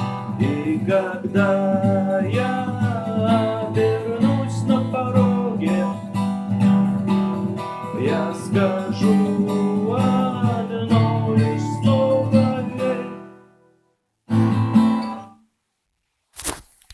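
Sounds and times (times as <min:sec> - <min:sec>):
acoustic guitar strumming: 0:00.0 - 0:15.4.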